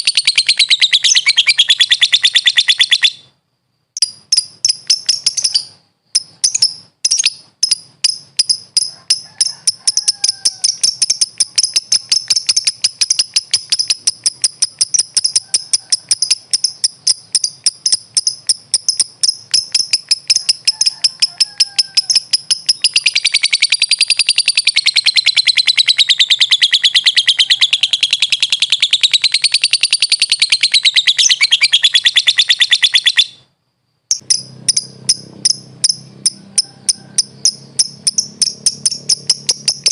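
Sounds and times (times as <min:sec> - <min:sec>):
lovebird chirping and trilling: 0:00.0 - 0:33.5, 0:34.1 - 0:39.9.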